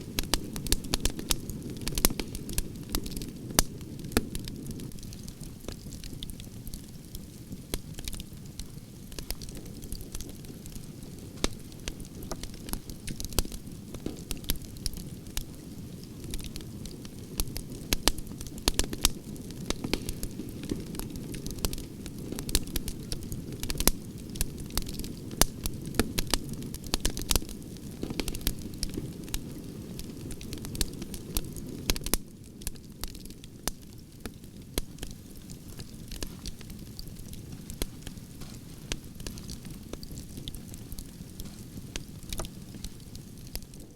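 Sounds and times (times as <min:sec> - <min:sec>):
logs crackling and popping: 0:00.0 - 0:43.9
low rumble of flame: 0:00.0 - 0:43.9.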